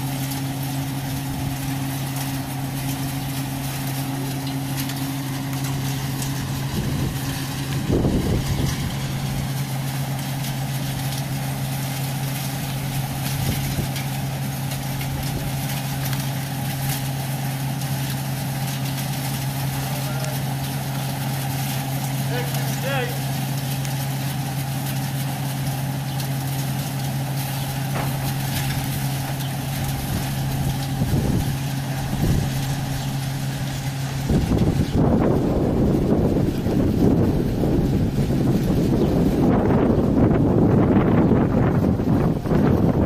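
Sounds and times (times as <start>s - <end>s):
sieving machine humming: 0.0s - 43.0s.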